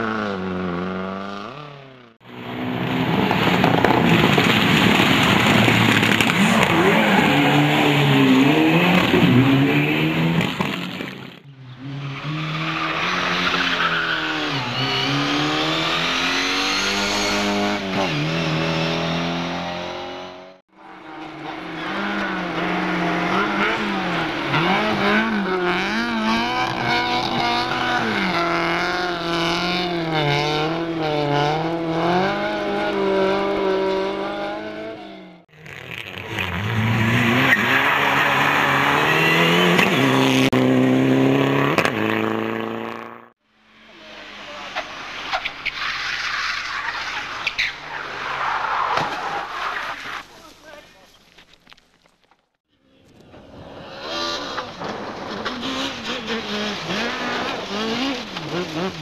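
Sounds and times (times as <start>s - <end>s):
rally car engine at full throttle: 0.0s - 47.7s, 52.8s - 59.0s.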